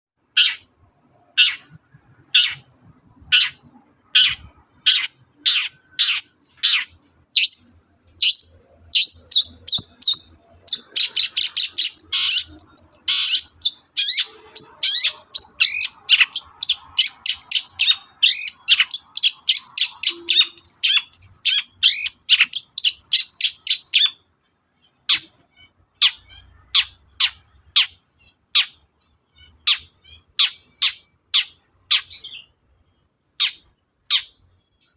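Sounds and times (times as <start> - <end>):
bird chattering song: 0.2 - 34.9
bird sharp high calls: 0.3 - 24.2, 24.8 - 34.9.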